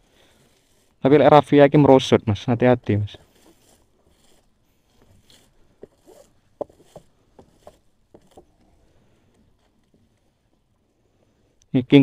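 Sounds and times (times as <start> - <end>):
faint rustling: 0.0 - 1.2, 2.9 - 11.6.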